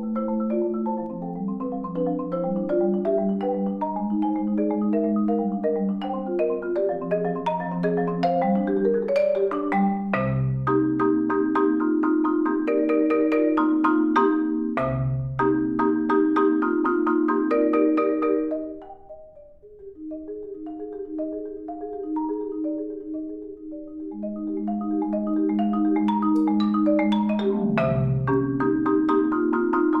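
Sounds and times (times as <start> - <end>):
marimba playing: 0.0 - 30.0.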